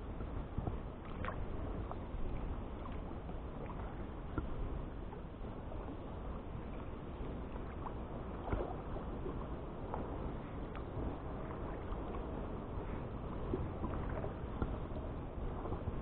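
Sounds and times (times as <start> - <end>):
water washing against hull: 0.0 - 16.0
paddle splashing in water: 0.6 - 4.6, 6.6 - 16.0.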